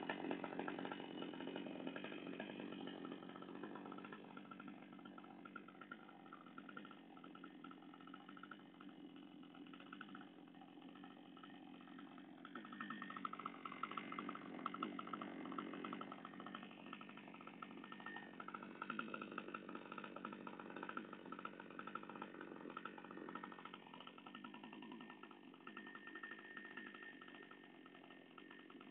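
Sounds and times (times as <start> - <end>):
chainsaw idling: 0.0 - 28.9.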